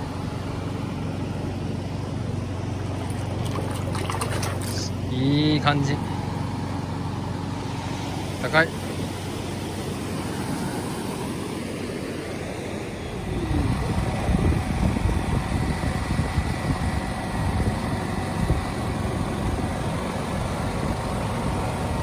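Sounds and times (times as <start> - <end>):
low uneven rumble: 0.0 - 22.0.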